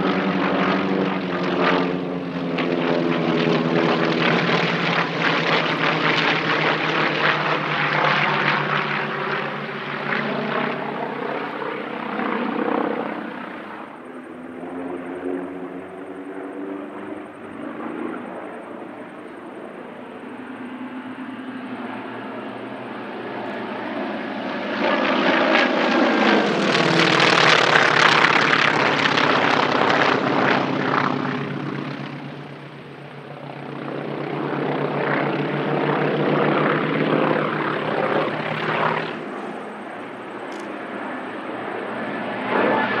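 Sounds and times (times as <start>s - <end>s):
propeller planes droning overhead: 0.0s - 43.0s.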